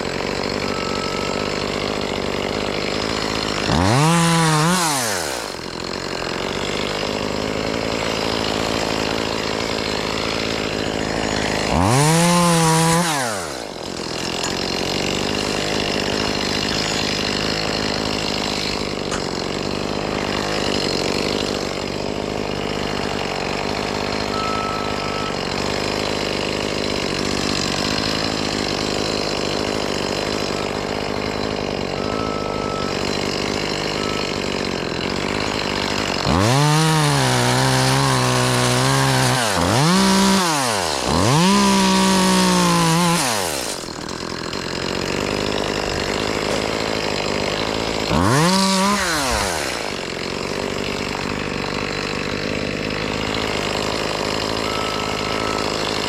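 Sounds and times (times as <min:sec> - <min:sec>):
chainsaw running and revving: 0:00.0 - 0:56.0.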